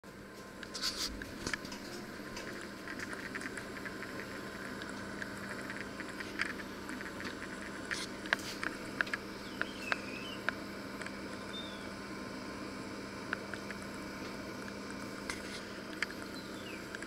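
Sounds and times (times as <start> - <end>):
electric oven humming: 0.0 - 17.0
sharp clicks and ticks: 0.6 - 11.7, 13.2 - 17.0.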